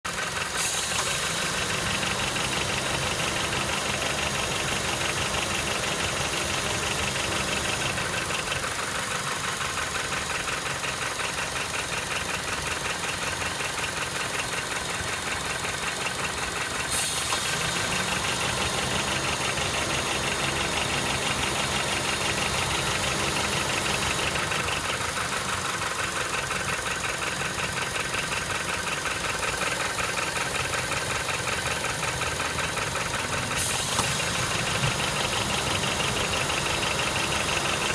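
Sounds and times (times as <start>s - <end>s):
engine running with rattling knock: 0.1s - 37.9s.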